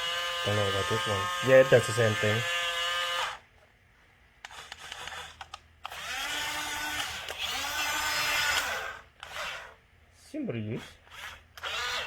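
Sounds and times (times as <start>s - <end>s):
toy electric motor whining: 0.0s - 3.4s, 4.4s - 9.8s, 10.8s - 12.0s.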